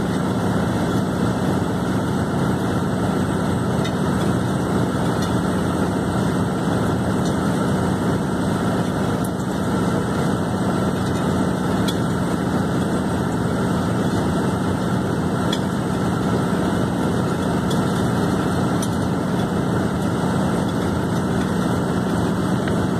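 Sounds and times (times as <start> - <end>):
drill rig hammering: 0.0 - 22.9.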